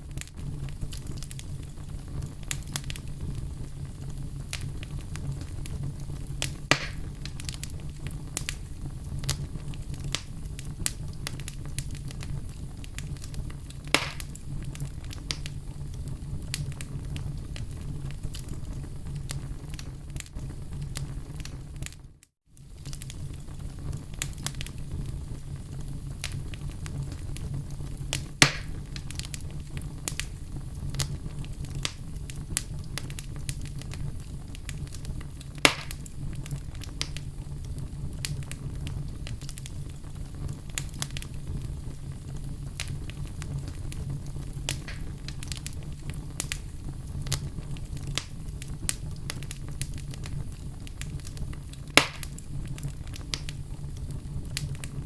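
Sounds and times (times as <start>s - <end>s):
fire crackling in fireplace: 0.0s - 55.0s
fire pops: 0.0s - 55.0s.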